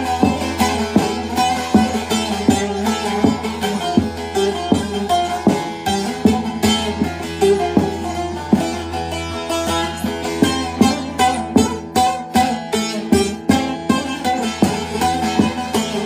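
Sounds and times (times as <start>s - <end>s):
saz plucked and strummed: 0.0s - 16.0s.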